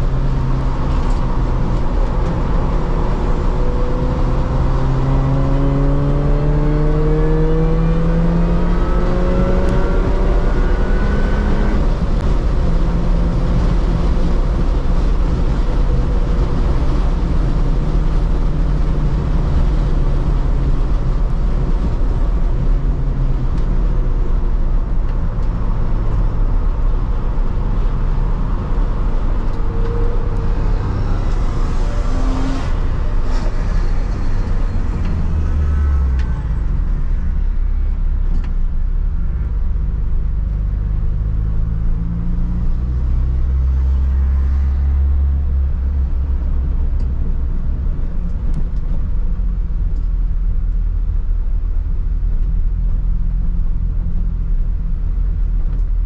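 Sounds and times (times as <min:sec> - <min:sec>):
car engine drone: 0:00.0 - 0:56.0
road and wind noise: 0:00.0 - 0:56.0.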